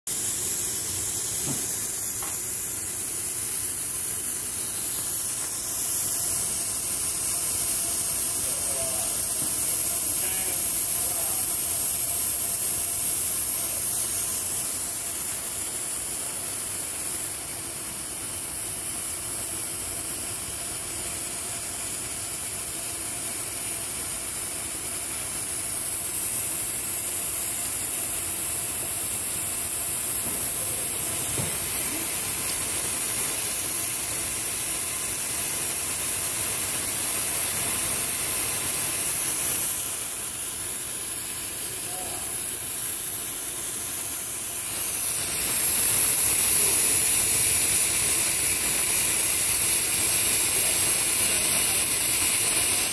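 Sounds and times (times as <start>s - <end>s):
high-pitched hiss: 0.1s - 52.9s.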